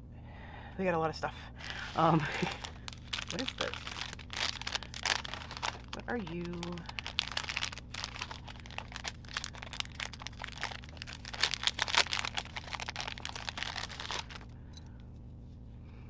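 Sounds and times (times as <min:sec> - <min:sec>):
cellophane wrapper crinkling: 0:01.6 - 0:14.6.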